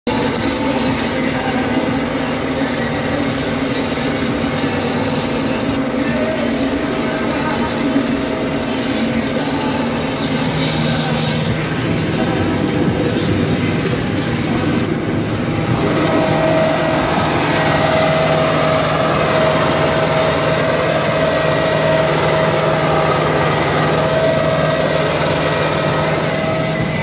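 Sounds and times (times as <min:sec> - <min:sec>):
steady whine: 0:00.0 - 0:27.0
tractor engine running: 0:00.0 - 0:27.0.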